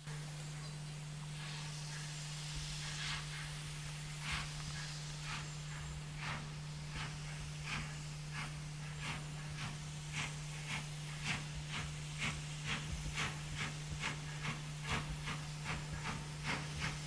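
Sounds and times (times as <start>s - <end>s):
steam hissing: 0.0s - 17.0s
steam locomotive chuffs: 1.2s - 17.0s.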